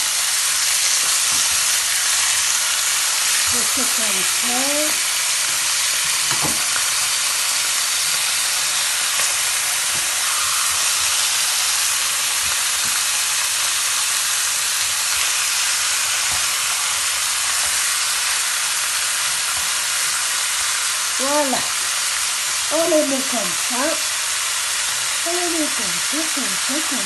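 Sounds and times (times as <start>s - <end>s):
meat sizzling in a pan: 0.0s - 27.0s.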